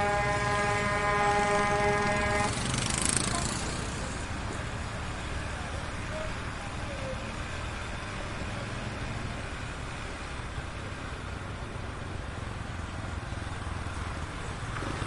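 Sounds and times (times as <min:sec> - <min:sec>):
heavy street traffic rumble: 0:00.0 - 0:15.0.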